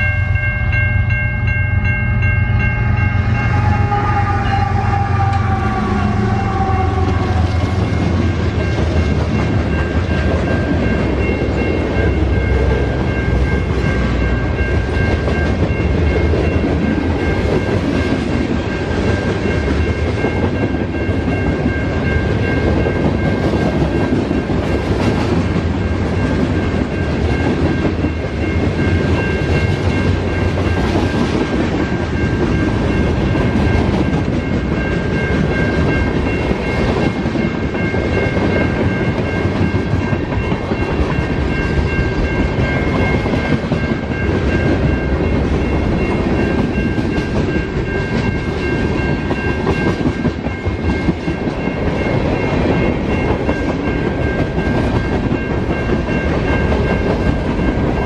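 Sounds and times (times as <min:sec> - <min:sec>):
crossing warning bell ringing: 0:00.0 - 0:58.0
train wheels clattering on rail: 0:06.2 - 0:58.0.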